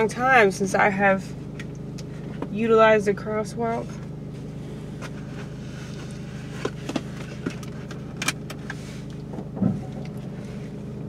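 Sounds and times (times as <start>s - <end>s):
car engine hum inside cabin: 0.0s - 11.0s.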